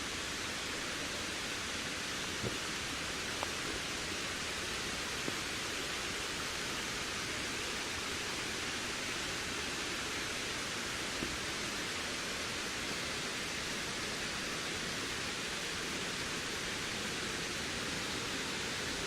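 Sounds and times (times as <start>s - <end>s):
steady wind hiss: 0.0s - 19.0s.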